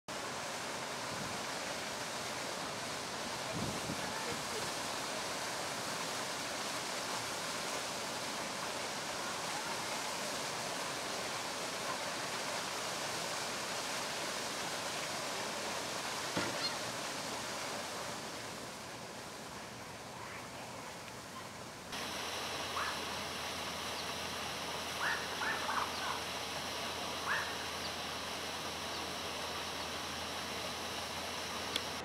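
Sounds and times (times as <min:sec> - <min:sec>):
fountain water splashing: 0:00.1 - 0:32.0.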